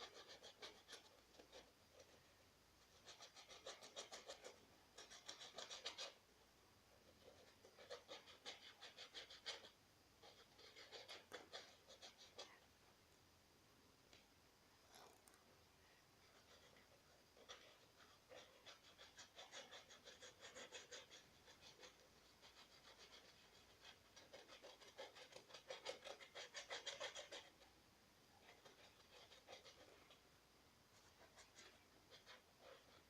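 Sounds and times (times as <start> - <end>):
paintbrush scratching on plastic: 0.0 - 6.2, 7.0 - 12.6, 16.2 - 27.7, 28.4 - 30.2, 31.0 - 33.0.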